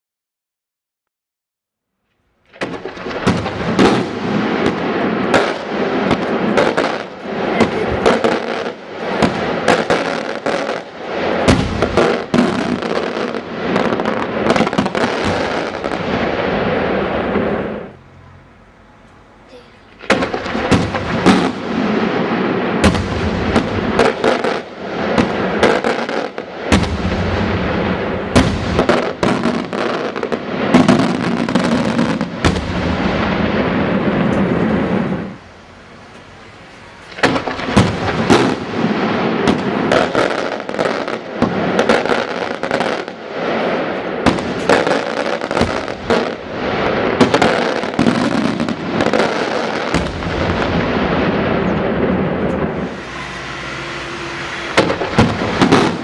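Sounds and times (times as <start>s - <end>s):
fireworks bangs and crackling: 2.1s - 18.4s, 19.5s - 56.0s.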